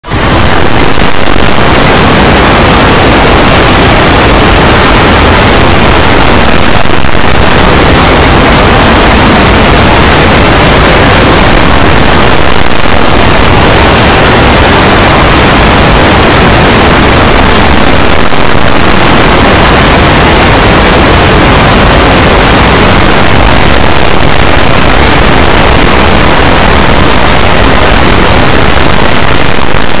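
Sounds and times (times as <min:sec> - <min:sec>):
distorted wash of blended noise: 0:00.0 - 0:30.0.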